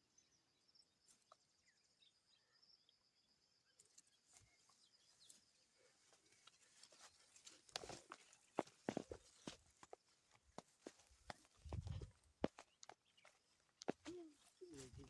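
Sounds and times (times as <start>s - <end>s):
faint bird chirps: 0.0s - 10.2s, 11.2s - 15.0s.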